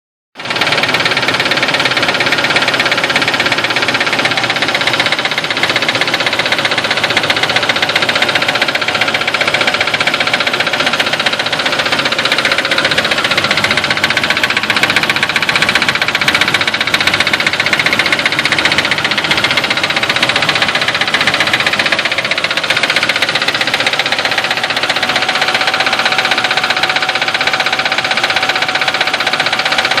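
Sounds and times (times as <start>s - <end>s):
car engine running: 0.4s - 30.0s.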